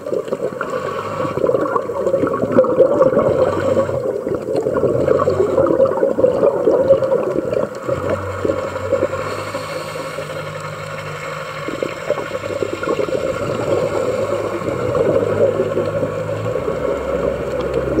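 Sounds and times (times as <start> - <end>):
low steady hum: 0.0 - 18.0
underwater crackling and bubbles: 0.0 - 18.0.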